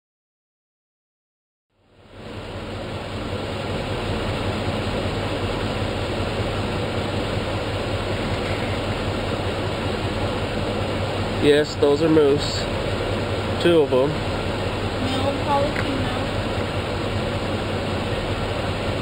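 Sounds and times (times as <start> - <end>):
vehicle engine humming: 1.8 - 19.0
fan-like hiss: 1.9 - 19.0.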